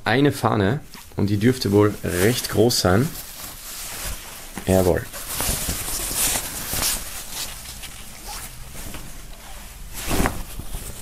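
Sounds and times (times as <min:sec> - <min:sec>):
flag fabric rustling: 0:00.8 - 0:11.0.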